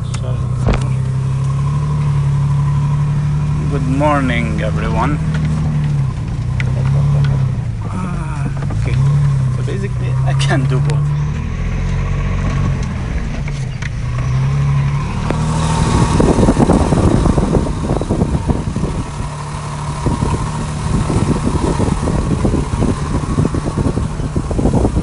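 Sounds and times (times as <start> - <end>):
engine running at low speed: 0.0 - 25.0.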